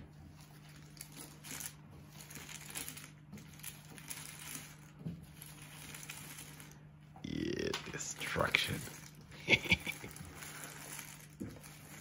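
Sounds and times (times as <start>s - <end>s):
puzzle pieces rustling and clicking: 0.4s - 6.8s, 7.7s - 12.0s.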